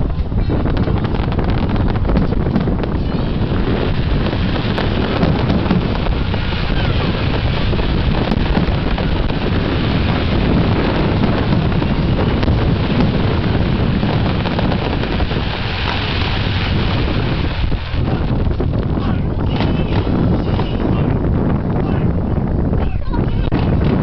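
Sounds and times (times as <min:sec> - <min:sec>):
fireworks bursting: 0:00.0 - 0:21.4
wind buffeting microphone: 0:00.0 - 0:24.0.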